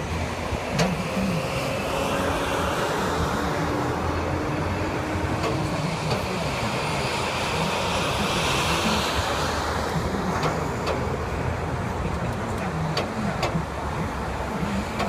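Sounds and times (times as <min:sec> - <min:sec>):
cars and trucks passing: 0:00.0 - 0:15.0
engine drone and tyre rumble: 0:00.0 - 0:15.0.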